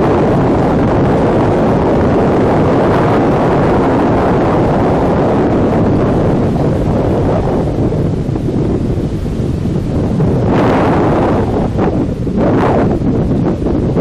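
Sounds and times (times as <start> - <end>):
storm wind roaring: 0.0 - 14.0
wind buffeting on microphone: 0.0 - 14.0.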